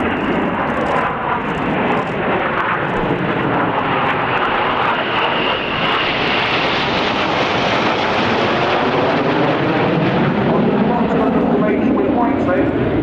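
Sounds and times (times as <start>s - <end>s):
jet noise overhead: 0.0s - 13.0s.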